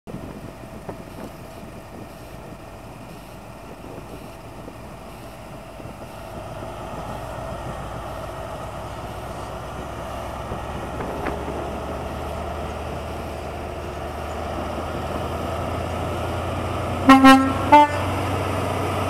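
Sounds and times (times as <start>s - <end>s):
train diesel engine: 0.1s - 19.0s.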